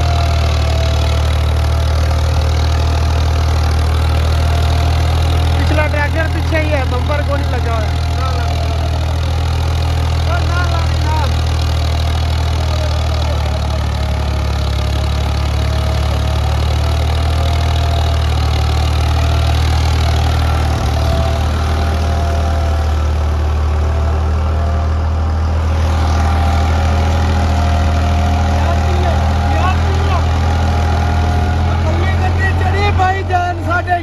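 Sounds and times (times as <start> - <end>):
tractor diesel engine droning: 0.0 - 34.0.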